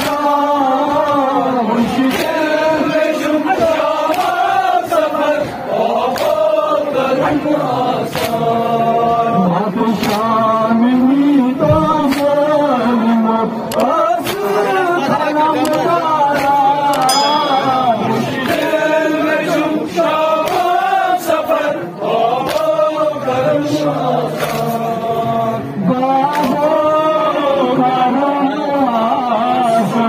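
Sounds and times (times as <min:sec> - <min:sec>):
men chanting over loudspeakers: 0:00.0 - 0:17.3, 0:17.9 - 0:30.0.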